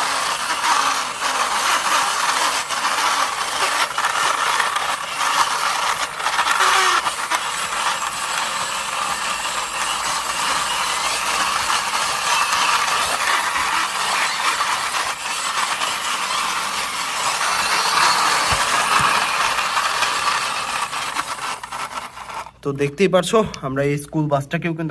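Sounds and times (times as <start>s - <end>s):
toy wheels rolling with rattle: 0.0s - 22.8s.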